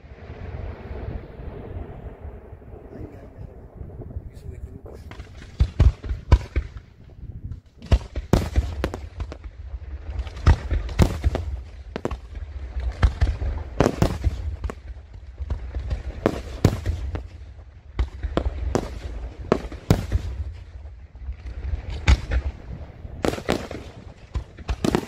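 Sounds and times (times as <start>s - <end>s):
low rumble: 0.0s - 25.0s
fireworks bangs: 1.9s - 25.0s.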